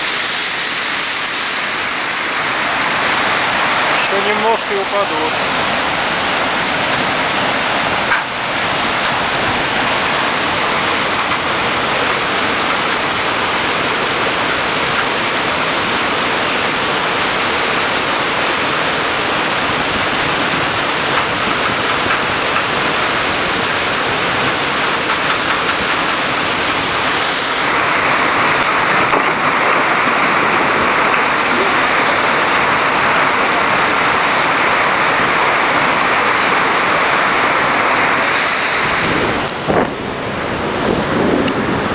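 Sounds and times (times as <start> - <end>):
water rushing through channel: 0.0 - 41.9.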